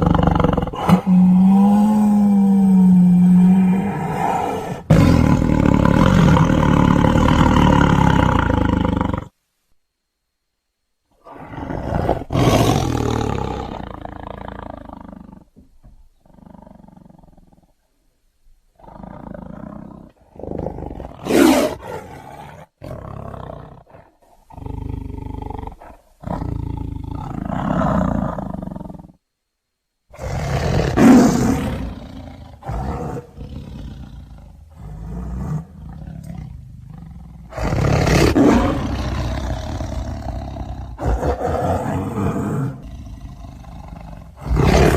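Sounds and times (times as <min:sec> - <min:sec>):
tiger roaring: 0:00.0 - 0:09.4, 0:11.2 - 0:15.6, 0:18.8 - 0:29.2, 0:30.1 - 0:44.9.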